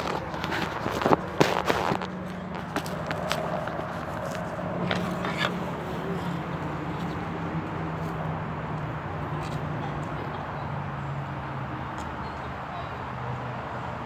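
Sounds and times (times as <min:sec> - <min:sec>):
traffic: 0:00.0 - 0:14.0.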